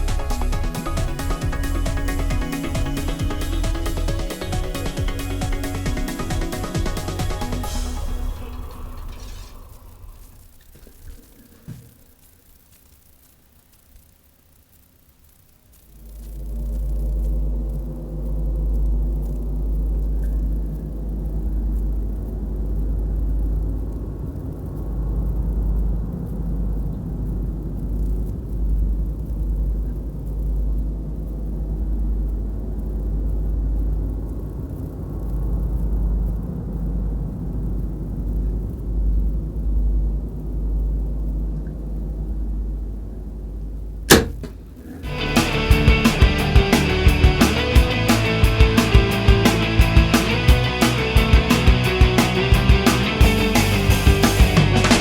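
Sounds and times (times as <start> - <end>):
drone hovering hum: 0.0 - 13.4, 15.1 - 55.0.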